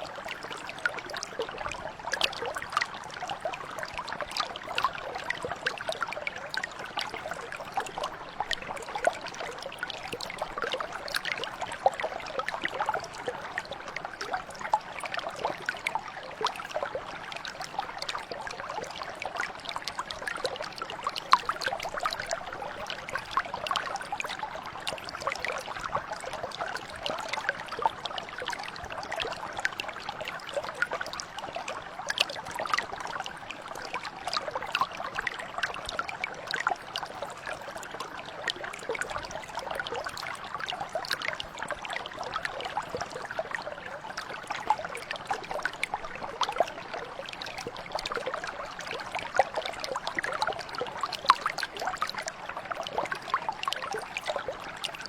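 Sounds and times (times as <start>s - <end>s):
mountain brook babbling: 0.0s - 55.0s.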